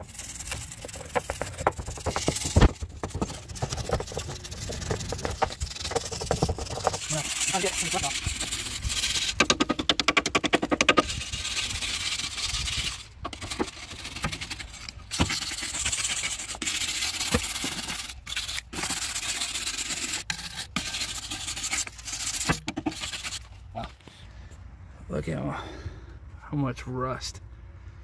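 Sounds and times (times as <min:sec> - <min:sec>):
wire brush scrubbing rusty steel: 0:00.0 - 0:23.6.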